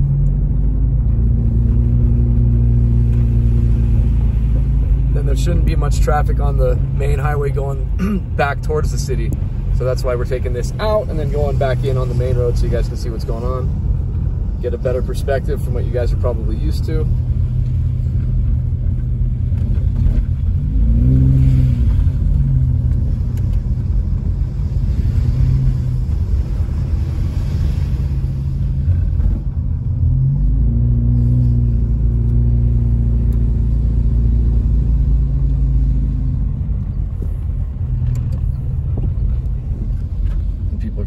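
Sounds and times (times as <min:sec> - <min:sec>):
car engine accelerating: 0:00.0 - 0:41.0
road rumble: 0:00.0 - 0:41.0.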